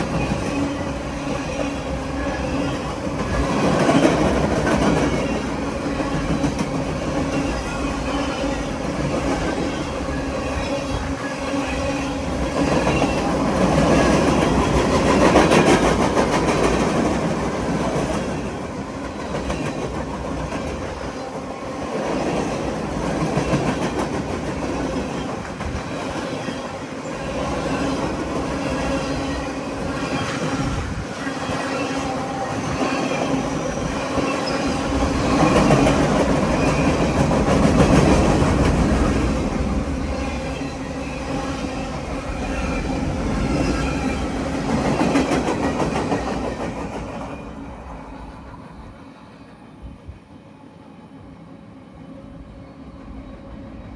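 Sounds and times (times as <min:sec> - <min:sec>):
freight train rolling past: 0:00.0 - 0:53.9.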